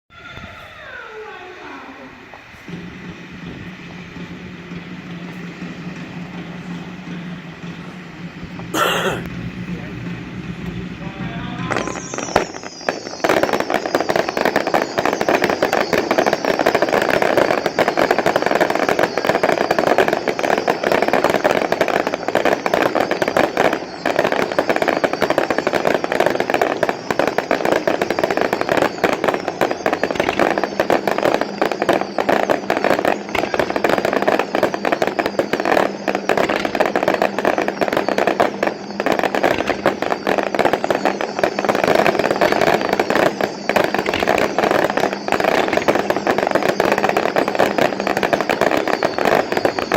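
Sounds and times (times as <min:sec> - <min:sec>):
falling firework whistle: 0:00.1 - 0:49.9
fireworks crackling barrage: 0:00.1 - 0:49.9.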